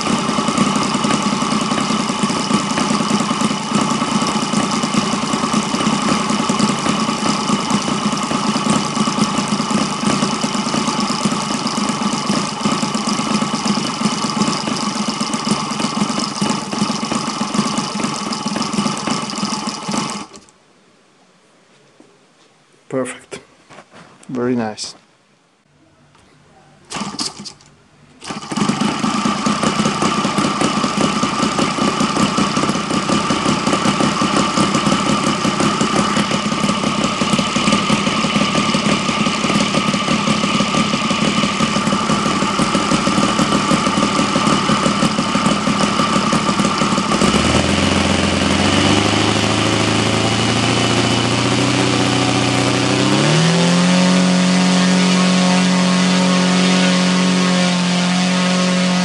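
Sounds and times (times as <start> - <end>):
model radial engine with propeller: 0.0 - 20.6, 26.9 - 59.0.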